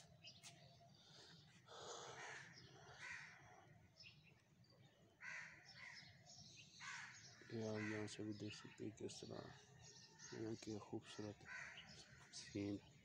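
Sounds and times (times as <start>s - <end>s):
crows cawing: 1.1s - 4.1s, 5.1s - 12.8s.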